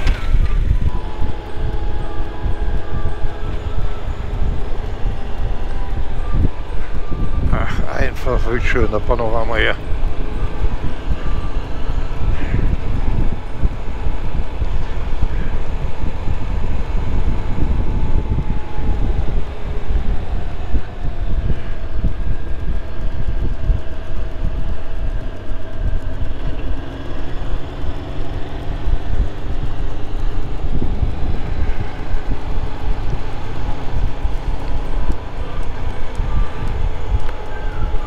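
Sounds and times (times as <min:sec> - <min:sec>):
heavy wind noise: 0:00.0 - 0:38.0
motorcycle engine running: 0:00.0 - 0:38.0.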